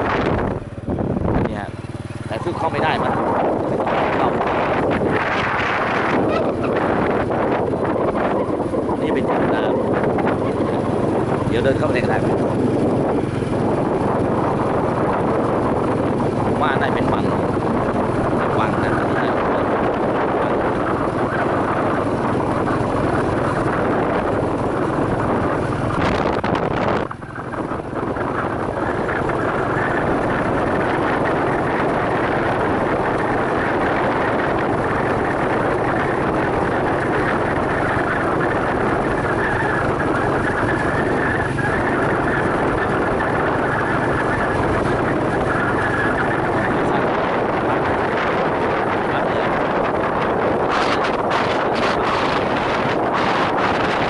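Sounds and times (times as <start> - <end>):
vehicle engine running: 0.0 - 54.0
wind on microphone: 0.0 - 54.0.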